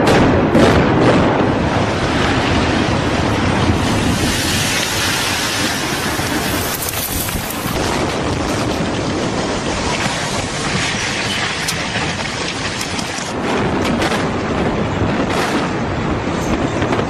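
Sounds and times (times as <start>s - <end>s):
loud steady rushing noise: 0.0s - 17.0s
scattered crackles: 0.9s - 17.0s.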